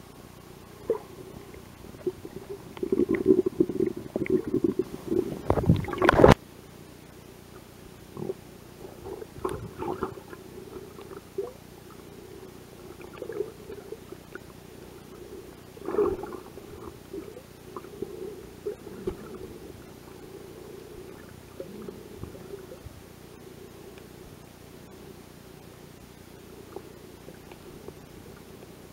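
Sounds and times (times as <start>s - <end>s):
steady low underwater hum: 0.0s - 28.9s.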